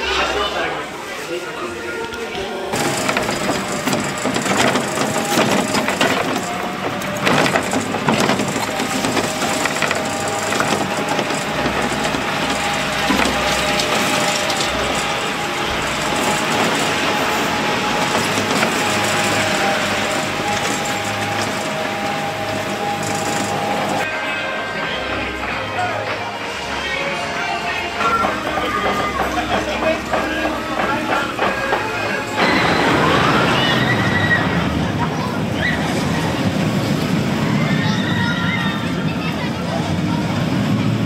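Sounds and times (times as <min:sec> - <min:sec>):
ride car motor humming: 0:00.0 - 0:41.0
ride car rattling and knocking: 0:02.7 - 0:41.0.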